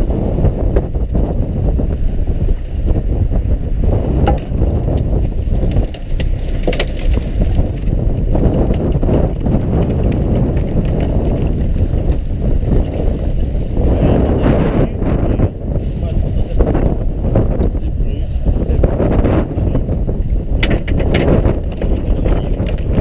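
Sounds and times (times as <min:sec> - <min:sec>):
boat engine rumble: 0:00.0 - 0:23.0
wind noise on microphone: 0:00.0 - 0:23.0.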